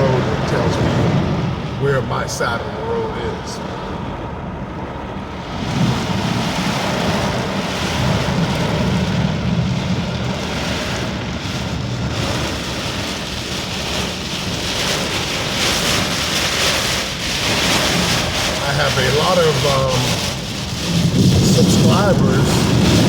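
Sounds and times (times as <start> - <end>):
heavy rain on car: 0.0 - 23.0
tyre and road noise: 0.0 - 23.0.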